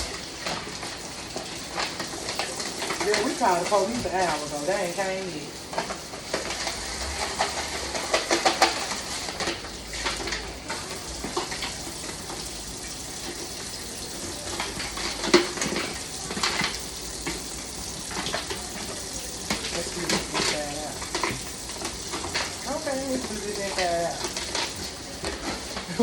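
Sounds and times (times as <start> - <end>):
steady hiss: 0.0 - 26.0
utensils clinking against pans: 0.0 - 26.0.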